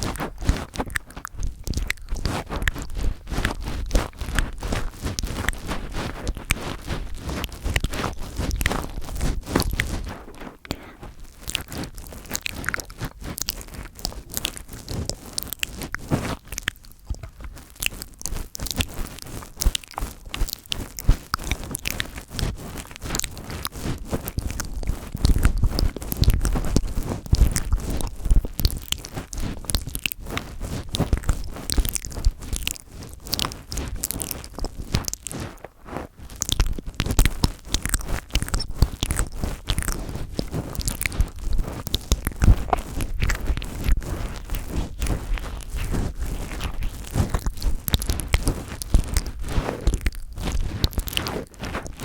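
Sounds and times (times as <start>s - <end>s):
fingers rubbing and tapping microphone: 0.0s - 52.0s.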